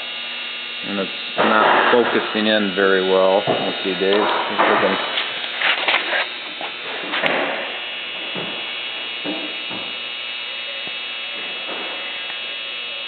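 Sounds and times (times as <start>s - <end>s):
steady hum of held tones: 0.0s - 13.0s.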